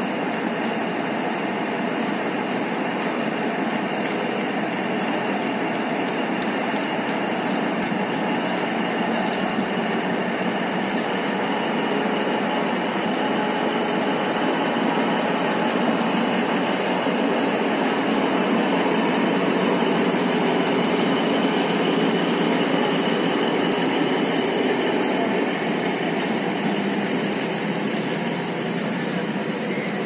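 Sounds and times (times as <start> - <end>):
train coaches on rails: 0.0 - 30.0.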